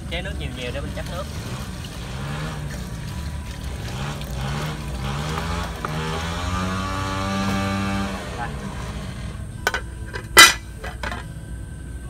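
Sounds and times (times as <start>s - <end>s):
motorboat engine running: 0.0s - 10.3s.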